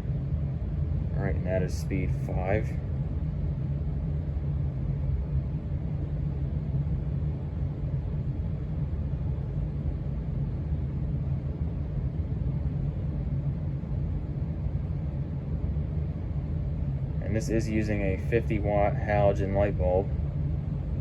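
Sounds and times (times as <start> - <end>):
ceiling fan rumble: 0.0 - 21.0.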